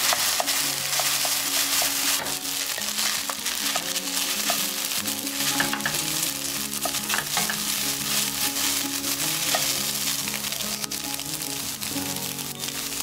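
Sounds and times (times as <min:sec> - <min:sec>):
rice sizzling in a frying pan: 0:00.0 - 0:13.0
spatula scraping pan: 0:00.0 - 0:13.0.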